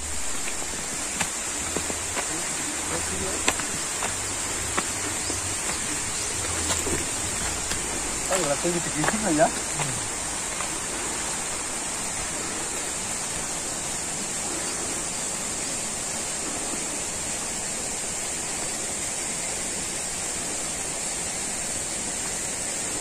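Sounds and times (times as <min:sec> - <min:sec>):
high-pitched hiss: 0:00.0 - 0:23.0
water rushing: 0:00.0 - 0:23.0.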